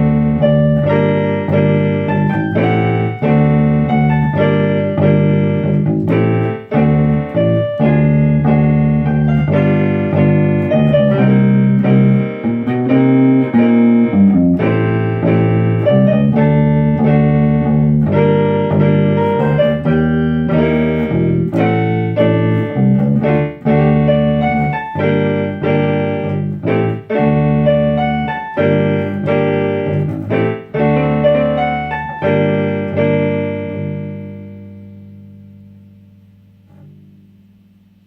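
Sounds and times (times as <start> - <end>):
bass guitar line: 0.0 - 38.0
electric piano chords: 0.0 - 38.0.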